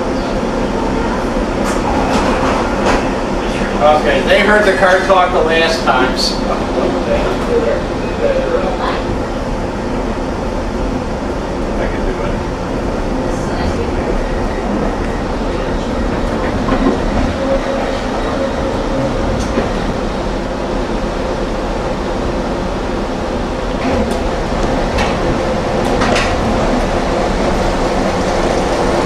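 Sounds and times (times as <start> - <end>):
streetcar rumbling on track: 0.0 - 29.0.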